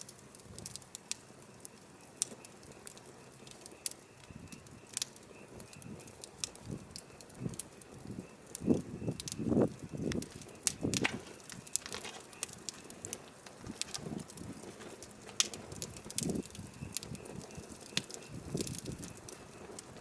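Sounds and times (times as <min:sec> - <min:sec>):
burning firewood crackling: 0:00.0 - 0:20.0.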